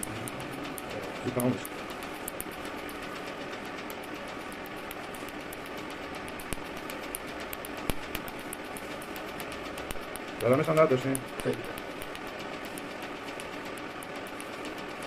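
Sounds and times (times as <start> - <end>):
laser snapping clicks: 0.0 - 3.1, 3.8 - 15.0
machine whirring: 0.0 - 15.0.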